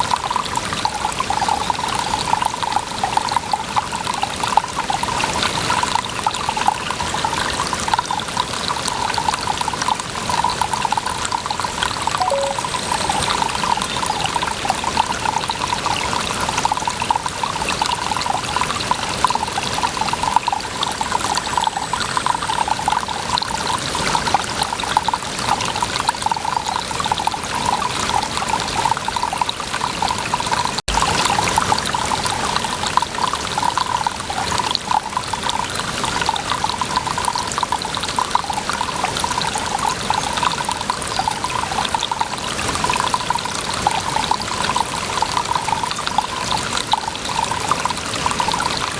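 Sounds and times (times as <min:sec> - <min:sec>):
water running and trickling: 0:00.0 - 0:48.9.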